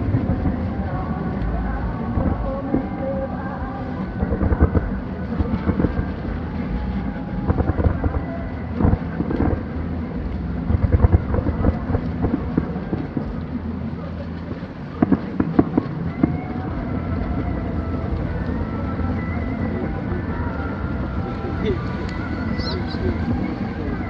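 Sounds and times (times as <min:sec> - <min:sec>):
distant fireworks rumbling: 0:00.0 - 0:03.2, 0:04.0 - 0:24.0
fireworks crackling: 0:00.0 - 0:24.0.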